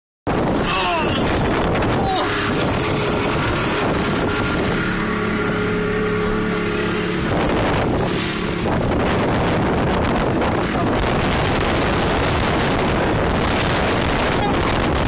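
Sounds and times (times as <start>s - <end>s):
boat engine hum: 0.3s - 15.0s
wind and water rushing: 0.3s - 15.0s.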